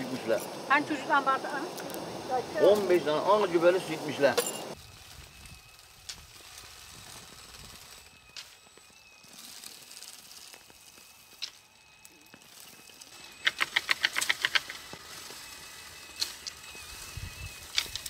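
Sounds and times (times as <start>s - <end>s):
faint steady whine: 0.0s - 18.0s
tines clattering through branches: 2.6s - 18.0s.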